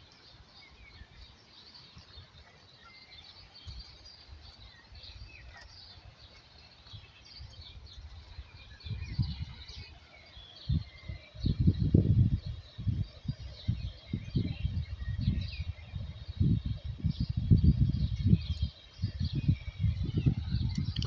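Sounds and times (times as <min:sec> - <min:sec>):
small birds chirping: 0:00.0 - 0:21.0
low rumbling on microphone: 0:02.0 - 0:21.0.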